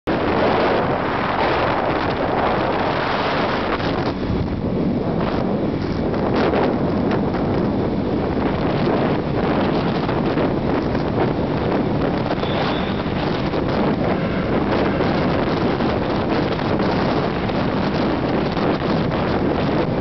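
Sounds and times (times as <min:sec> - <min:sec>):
road noise: 0:00.0 - 0:20.0
wind buffeting microphone: 0:00.1 - 0:20.0.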